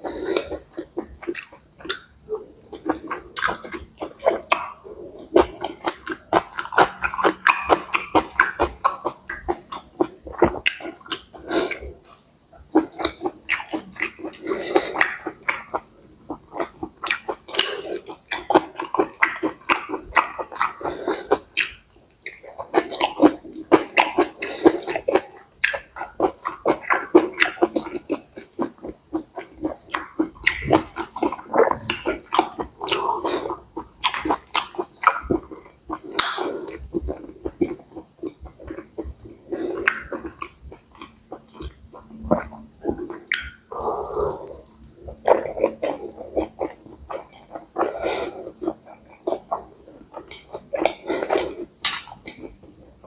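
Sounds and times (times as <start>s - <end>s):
close-miked wet chewing: 0.0s - 53.0s.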